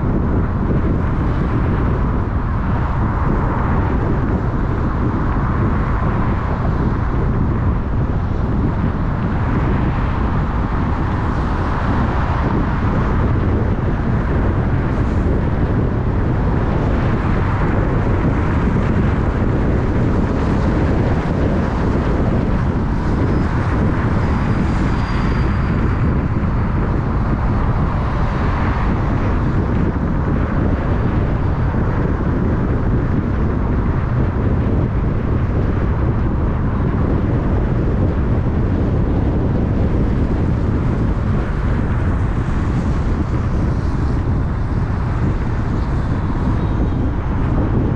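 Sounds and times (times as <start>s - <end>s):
car tyres and engine rumble: 0.0s - 47.9s.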